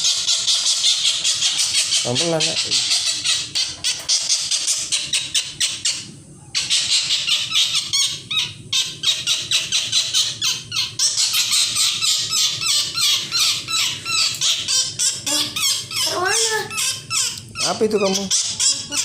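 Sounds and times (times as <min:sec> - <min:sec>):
bird shrill squealing calls: 0:00.0 - 0:19.0.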